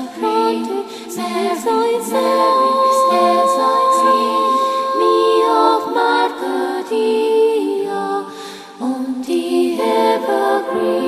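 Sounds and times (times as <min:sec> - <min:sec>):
slow sung song: 0:00.0 - 0:11.0.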